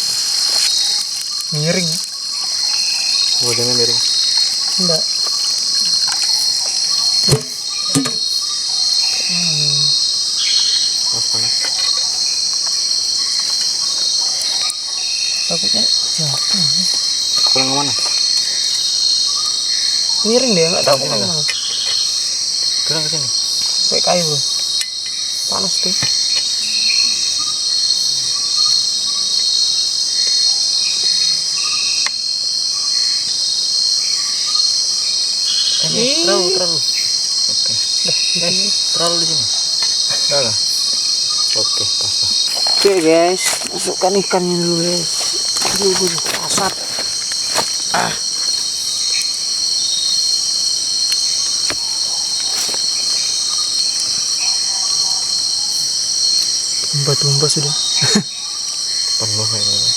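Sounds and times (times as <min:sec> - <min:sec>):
insect buzzing chorus: 0:00.0 - 0:59.9
short insect chirps: 0:00.0 - 0:59.9.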